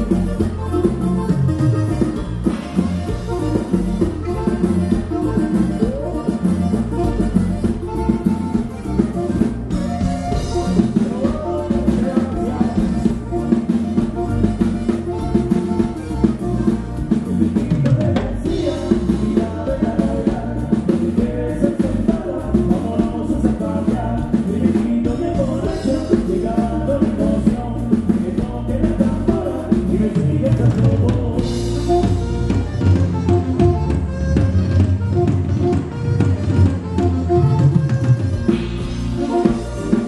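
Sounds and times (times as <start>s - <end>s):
drum kit beat: 0.0s - 40.0s
live band music: 0.0s - 40.0s.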